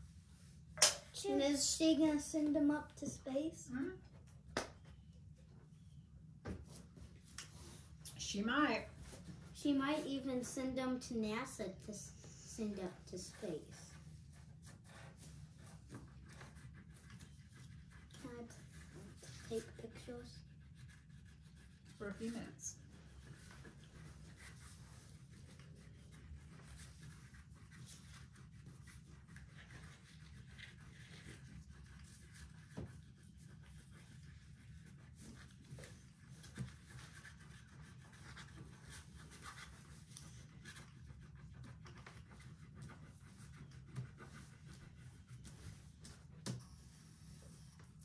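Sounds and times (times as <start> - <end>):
oil pastels scratching on paper: 6.7 - 48.0.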